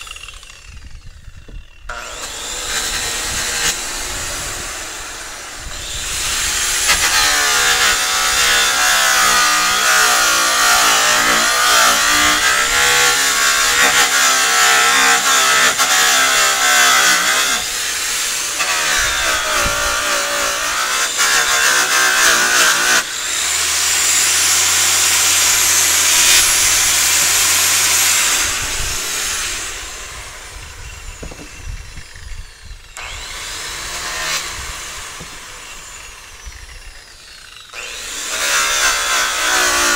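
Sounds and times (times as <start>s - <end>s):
power polisher motor whine: 0.0s - 21.6s, 22.7s - 39.9s.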